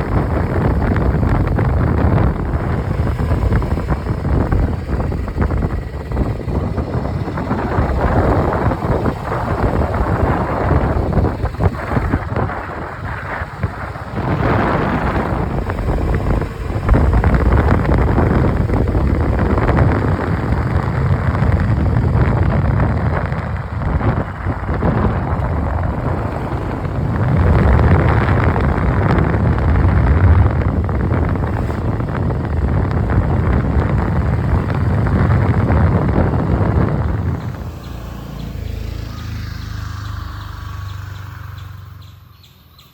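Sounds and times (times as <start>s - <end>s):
motorcycle engine running: 0.0s - 42.9s
road noise: 0.0s - 42.9s
wind buffeting microphone: 0.0s - 42.9s.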